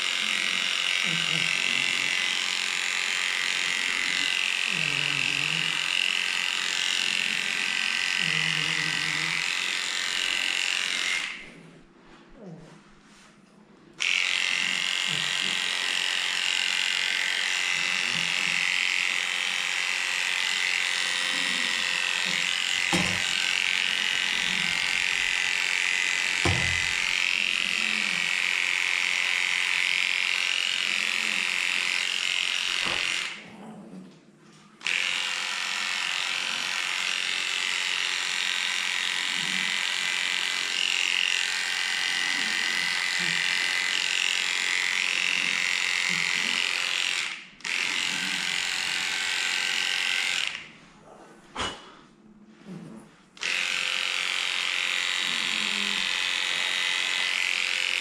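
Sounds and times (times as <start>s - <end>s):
electric clippers buzzing: 0.0s - 11.6s, 14.0s - 33.5s, 34.8s - 50.7s, 53.4s - 58.0s.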